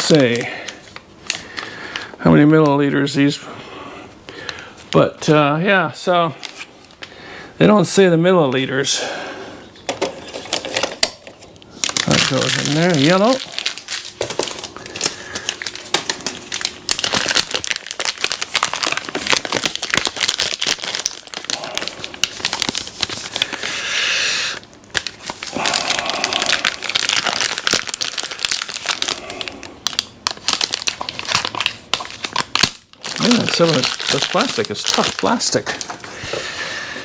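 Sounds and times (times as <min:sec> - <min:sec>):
plastic packaging crinkling: 0:00.0 - 0:03.3, 0:10.0 - 0:23.8, 0:24.4 - 0:37.0.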